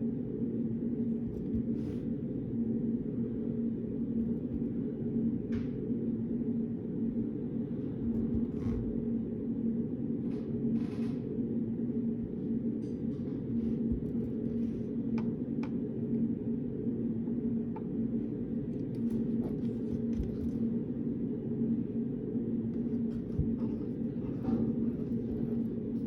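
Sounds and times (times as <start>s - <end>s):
ventilation hum: 0.0s - 26.0s.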